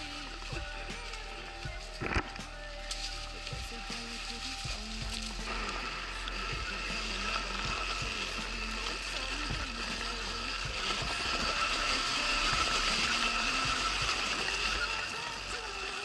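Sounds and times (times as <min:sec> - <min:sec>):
electric motorcycle motor whine: 0:00.0 - 0:16.0
tyres and wind rumble: 0:00.0 - 0:16.0.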